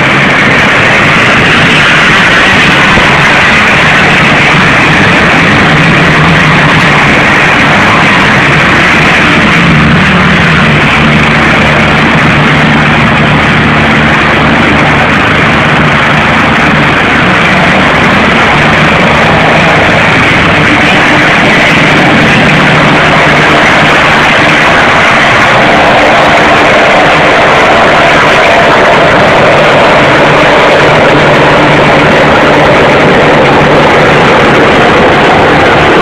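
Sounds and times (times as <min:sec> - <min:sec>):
helicopter rotor running: 0:00.0 - 0:36.0.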